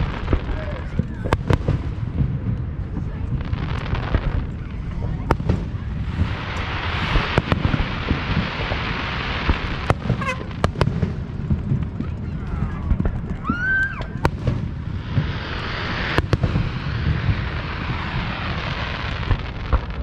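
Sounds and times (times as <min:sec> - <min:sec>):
fireworks bangs and pops: 0:00.0 - 0:20.0
fireworks crackling: 0:00.0 - 0:20.0
low rumble: 0:00.0 - 0:20.0.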